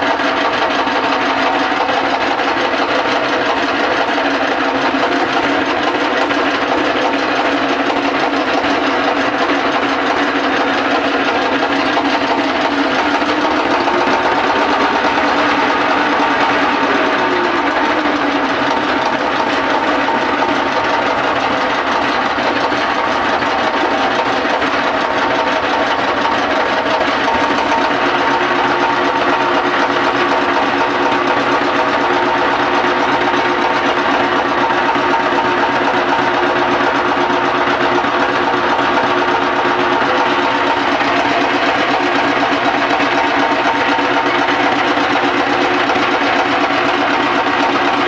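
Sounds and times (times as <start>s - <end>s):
boat engine drone: 0.0s - 48.0s.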